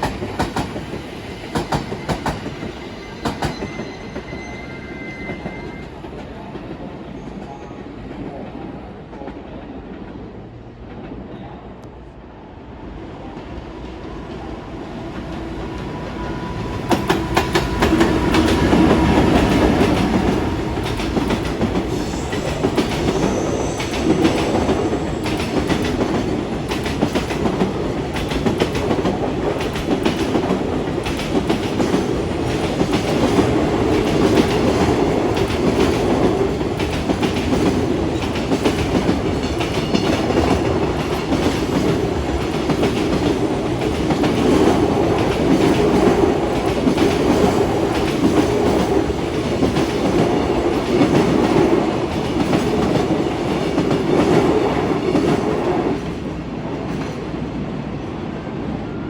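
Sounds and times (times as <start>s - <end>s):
train wheels clattering on rails: 0.0s - 8.5s, 15.2s - 57.5s.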